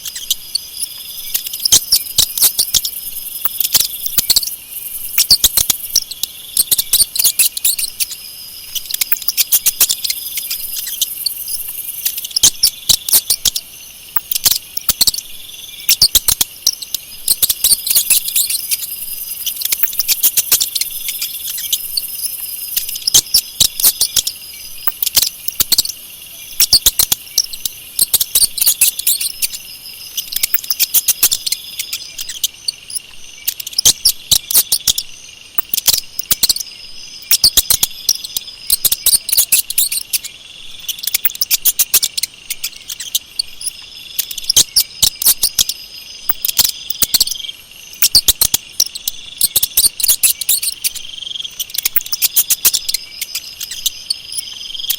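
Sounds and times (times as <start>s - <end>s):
mice squeaking and chittering: 0.0s - 54.9s.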